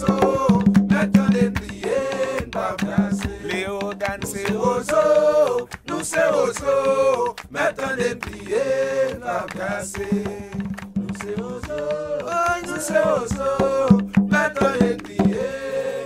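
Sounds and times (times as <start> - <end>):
light percussion: 0.0 - 16.0
voices singing sliding notes: 0.0 - 16.0.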